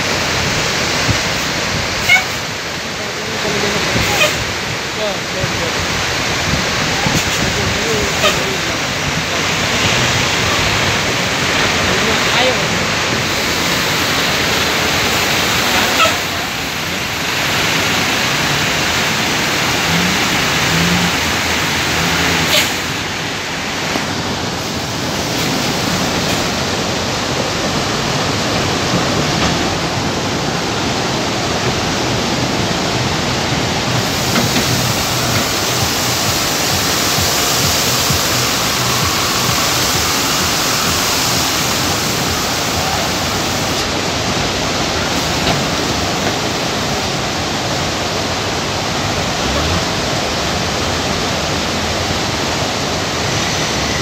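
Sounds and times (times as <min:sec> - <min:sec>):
river rushing over boulders: 0:00.0 - 0:54.0.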